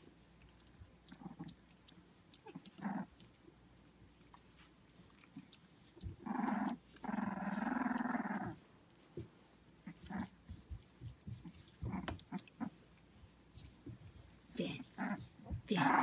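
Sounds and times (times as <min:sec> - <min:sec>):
puppies growling: 0:00.0 - 0:08.7, 0:09.8 - 0:13.1, 0:14.7 - 0:16.0
puppies grunting softly: 0:00.0 - 0:16.0.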